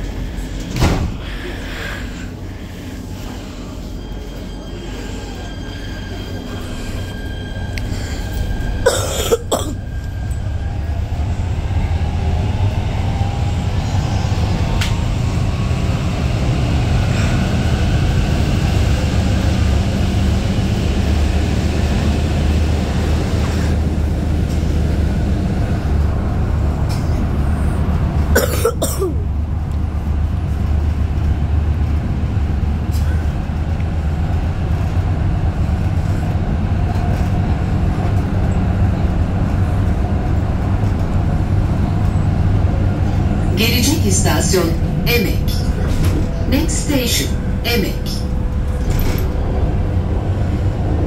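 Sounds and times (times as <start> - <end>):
rail wheels rumbling: 0.0 - 51.0.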